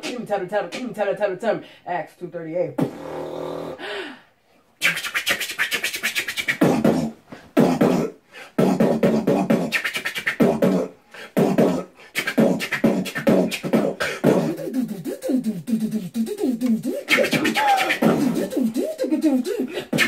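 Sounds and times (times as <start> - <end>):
beatboxing mouth clicks and snares: 0.0 - 1.0, 2.8 - 3.8, 4.8 - 20.0
hummed pitch-bending vocal tones: 2.8 - 3.8, 4.8 - 20.0.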